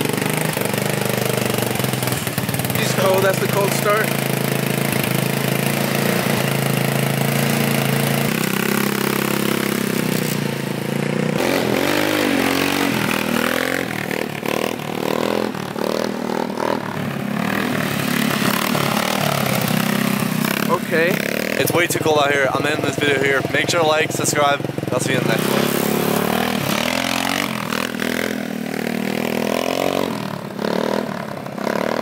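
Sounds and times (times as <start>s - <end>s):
scooter engine idling and revving: 0.0s - 32.0s.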